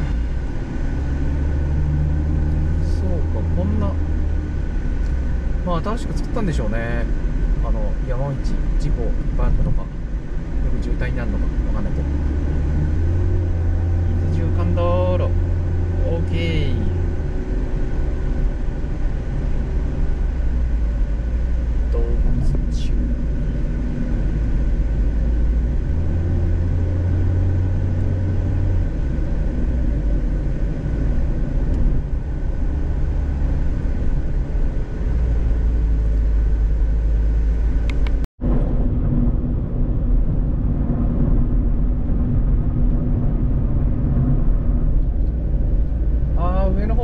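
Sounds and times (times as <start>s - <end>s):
car cabin rumble of tyres and engine: 0.0s - 47.0s.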